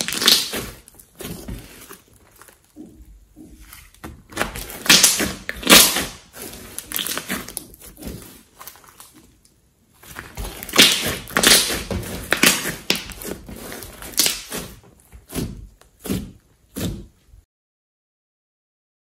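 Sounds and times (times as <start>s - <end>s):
slime squelching and popping: 0.0s - 17.2s.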